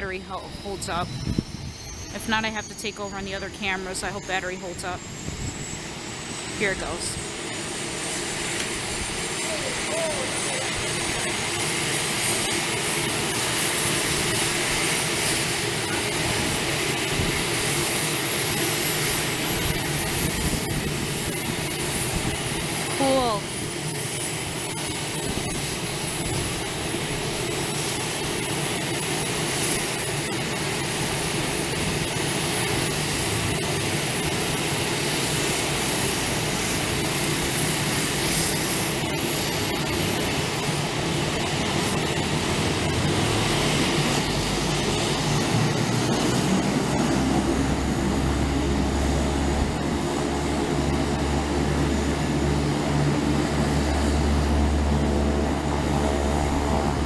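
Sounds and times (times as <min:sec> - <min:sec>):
airplane engine running: 0:00.0 - 0:57.0.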